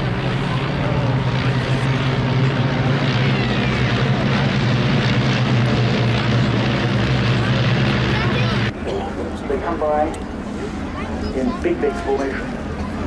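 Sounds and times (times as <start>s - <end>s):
biplane engines droning: 0.0s - 13.0s.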